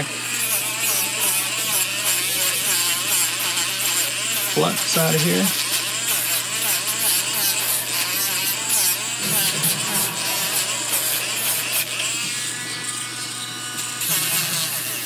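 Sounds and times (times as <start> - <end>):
rotary tool sanding metal: 0.0 - 15.0.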